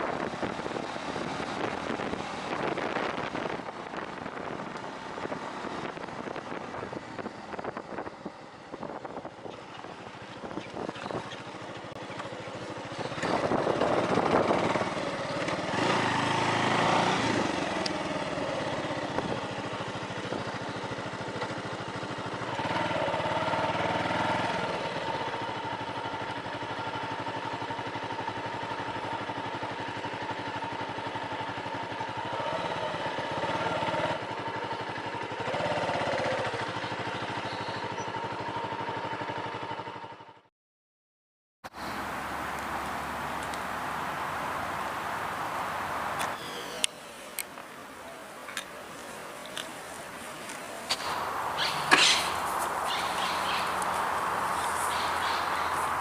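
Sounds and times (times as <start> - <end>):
motorcycle engine running: 0.0 - 40.5, 41.7 - 56.0.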